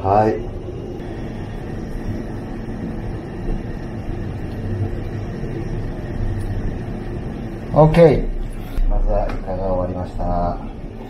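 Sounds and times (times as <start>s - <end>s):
faint steady tones: 0.0s - 11.0s
low background hum and rumble: 0.0s - 11.0s.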